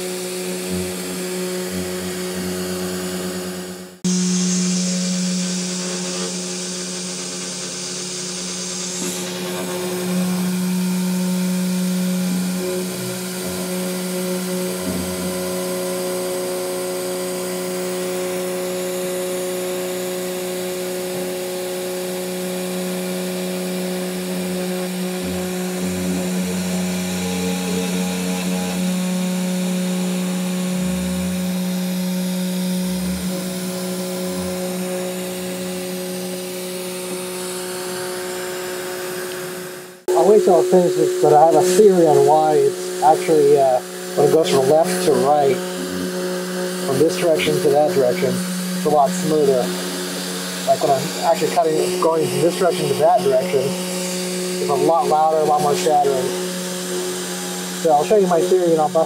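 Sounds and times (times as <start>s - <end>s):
router spindle whine: 0.0s - 59.0s.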